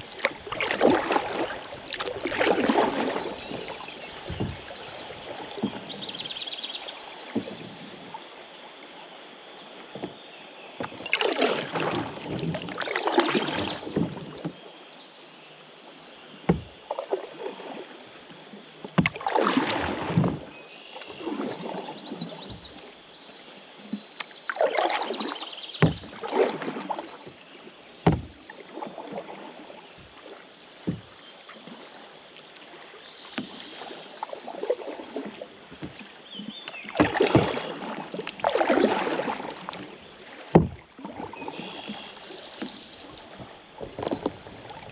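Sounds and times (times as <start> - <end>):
kayak paddles splashing water: 0.0 - 44.9.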